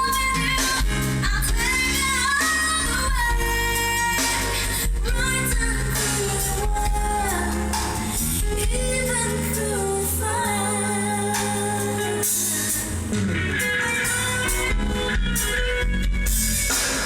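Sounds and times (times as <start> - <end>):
pop song with vocals: 0.0 - 17.0.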